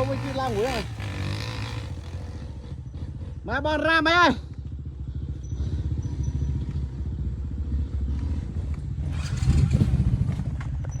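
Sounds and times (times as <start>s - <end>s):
dirt bike engine pulsing: 0.0s - 11.0s.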